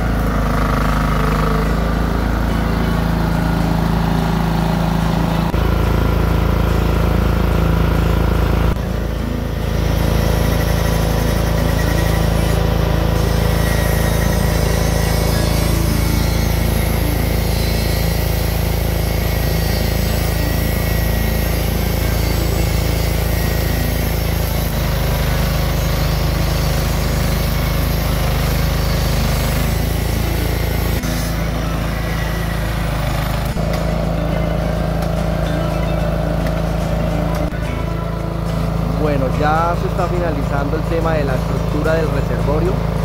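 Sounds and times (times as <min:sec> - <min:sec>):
portable generator engine running: 0:00.0 - 0:43.0.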